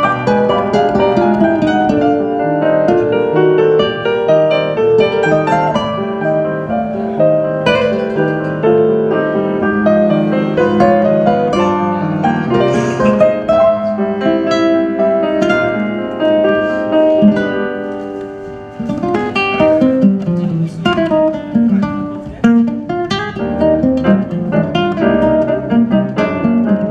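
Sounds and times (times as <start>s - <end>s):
guitar playing plucked notes: 0.0s - 26.9s.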